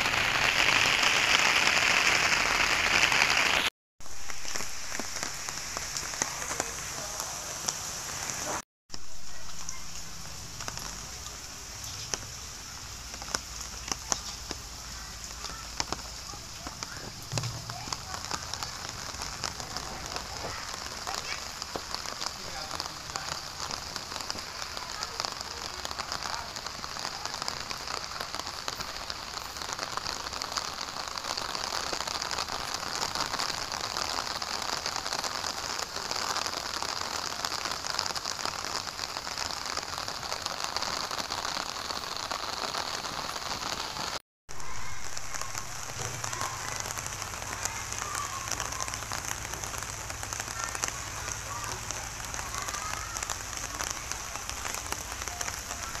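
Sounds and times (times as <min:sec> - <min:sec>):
steady rain on roofs: 0:00.0 - 0:56.0.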